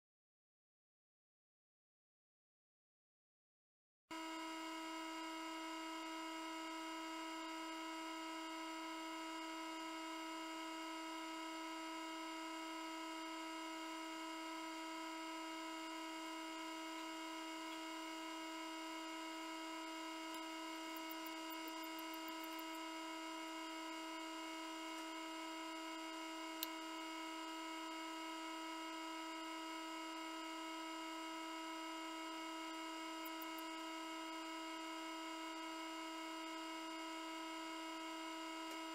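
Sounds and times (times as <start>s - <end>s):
small fan motor humming: 4.1s - 38.9s.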